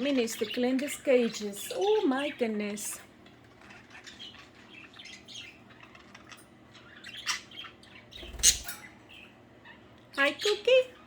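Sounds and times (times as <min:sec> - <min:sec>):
budgerigars chirping and chattering: 0:00.0 - 0:11.0.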